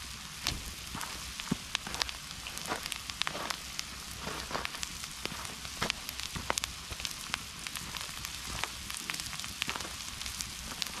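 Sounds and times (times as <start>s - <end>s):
campfire crackling and popping: 0.0s - 11.0s
steady hiss: 0.0s - 11.0s
vegetables sizzling in a pan: 0.0s - 11.0s.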